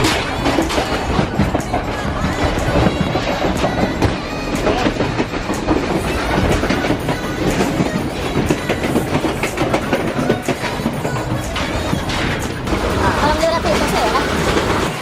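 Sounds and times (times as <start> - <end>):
carriage rattling and knocking: 0.0 - 15.0
train rumble: 0.0 - 15.0
train wheels clicking on rail joints: 0.0 - 15.0.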